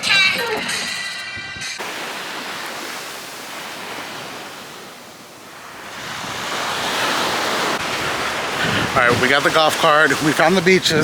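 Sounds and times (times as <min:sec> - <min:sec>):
sea surf washing on beach: 0:01.8 - 0:11.0.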